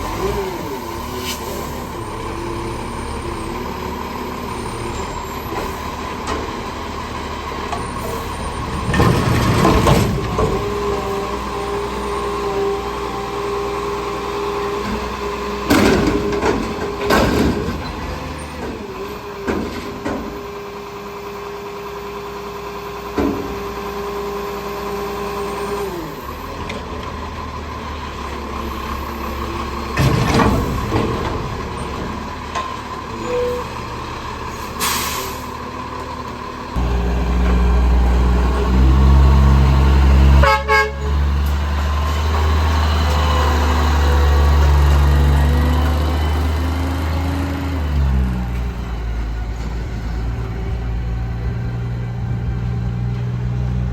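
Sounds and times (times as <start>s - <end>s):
garbage truck engine whining: 0.0s - 53.9s.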